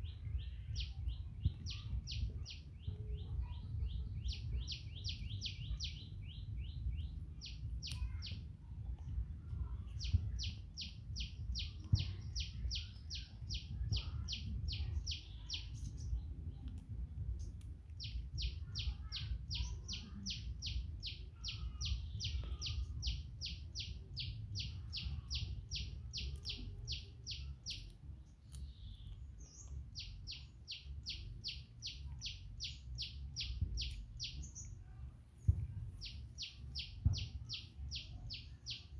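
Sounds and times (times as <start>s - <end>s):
low background rumble: 0.0s - 38.9s.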